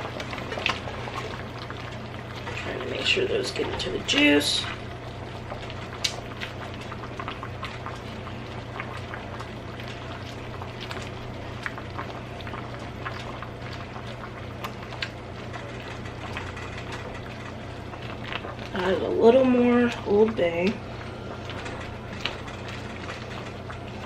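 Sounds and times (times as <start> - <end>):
liquid bubbling at a boil: 0.0 - 24.0
steady low hum: 0.0 - 24.0.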